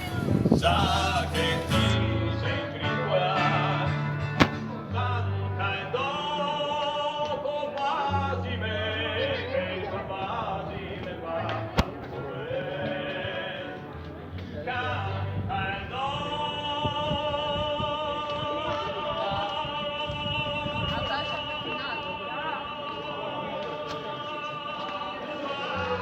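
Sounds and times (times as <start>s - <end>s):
music: 0.0s - 26.0s.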